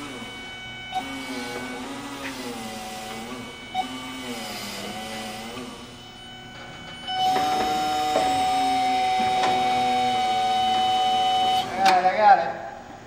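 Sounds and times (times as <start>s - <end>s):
forklift motor whine: 0.0s - 12.1s
steady high whine: 0.0s - 13.0s.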